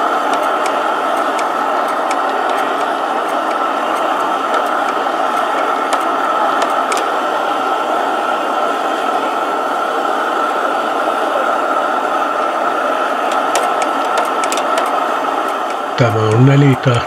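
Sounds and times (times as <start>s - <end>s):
burner hissing rush: 0.0s - 17.0s.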